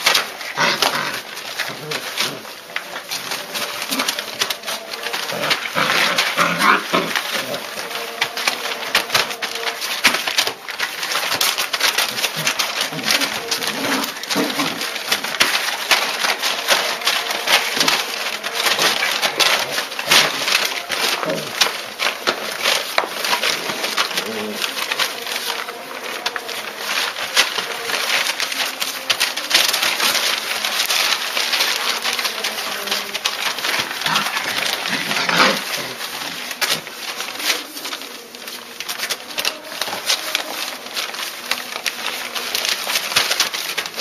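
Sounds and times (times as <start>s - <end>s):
clicks and scrabbling: 0.0s - 44.0s.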